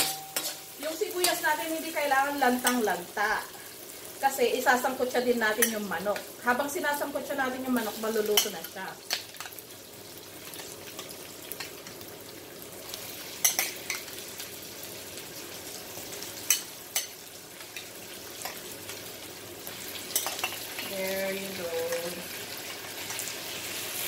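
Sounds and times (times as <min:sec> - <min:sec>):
onions sizzling in a pan: 0:00.0 - 0:24.0.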